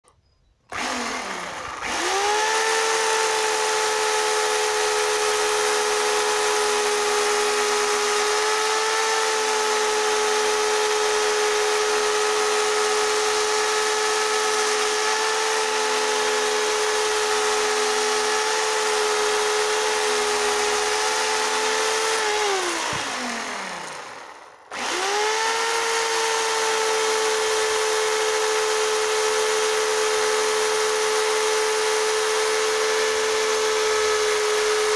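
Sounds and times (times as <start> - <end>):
electric chainsaw whining: 0.7 - 34.9.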